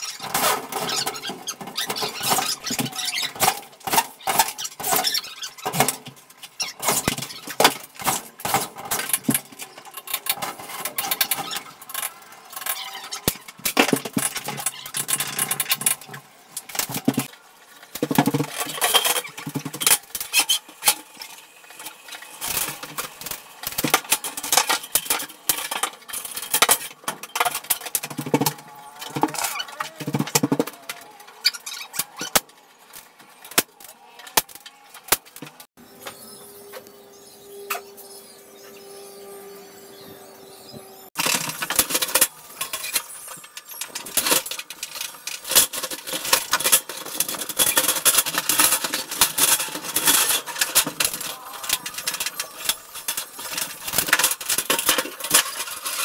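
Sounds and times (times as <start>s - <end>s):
metallic clattering and scraping: 0.0s - 36.2s, 41.1s - 56.0s.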